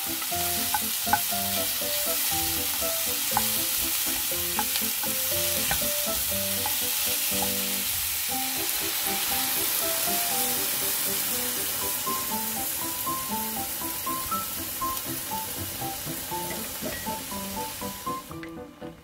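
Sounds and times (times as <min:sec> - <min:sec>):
food sizzling in a frying pan: 0:00.0 - 0:18.6
light background music: 0:00.0 - 0:19.0.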